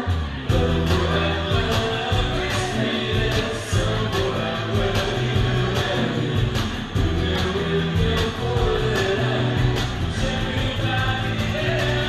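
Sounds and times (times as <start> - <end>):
steady drum beat: 0.5 - 12.0.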